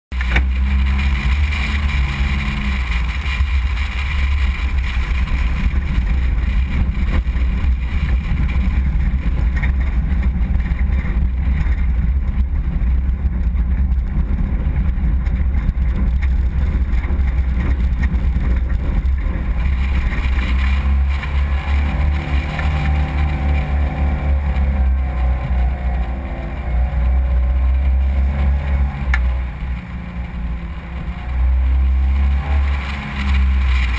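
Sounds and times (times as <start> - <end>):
vehicle engine rumbling: 0.0 - 33.9.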